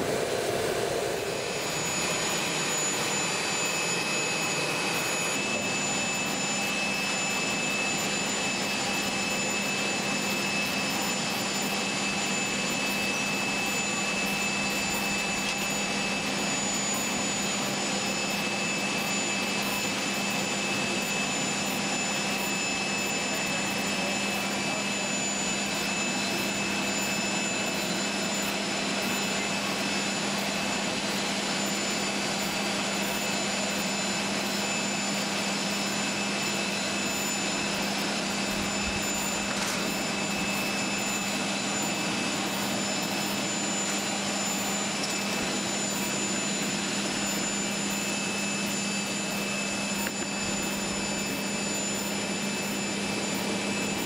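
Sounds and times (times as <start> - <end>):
aircraft turbine whine and hum: 0.0 - 54.0.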